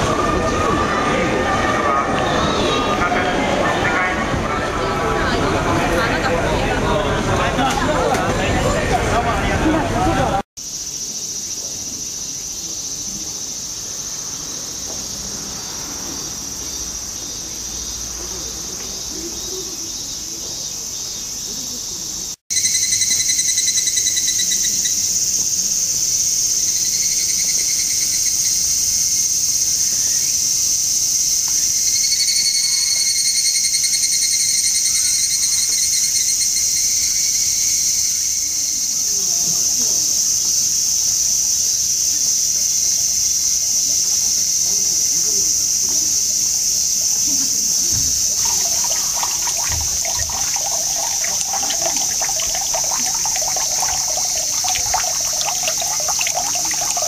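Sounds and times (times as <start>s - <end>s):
cicadas chorus: 10.6s - 57.0s
cicadas pulsed phrases: 10.6s - 57.0s.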